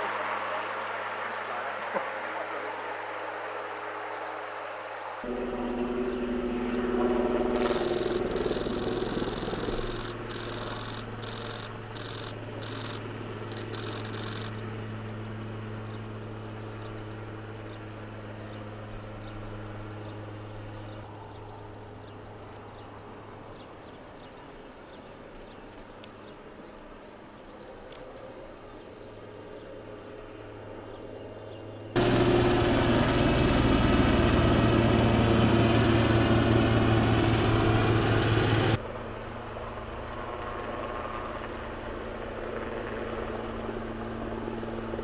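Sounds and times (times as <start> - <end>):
helicopter flying away: 0.0 - 45.0.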